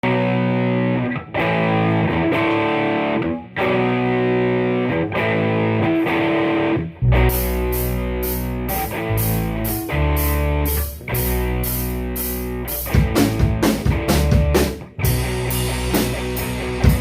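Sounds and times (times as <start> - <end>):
distorted guitar chords: 0.0 - 17.0
rock band playing: 0.0 - 17.0.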